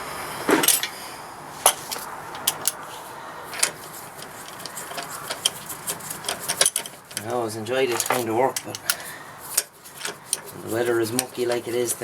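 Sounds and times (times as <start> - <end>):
metal tools clinking: 1.6 - 2.9, 3.5 - 12.0.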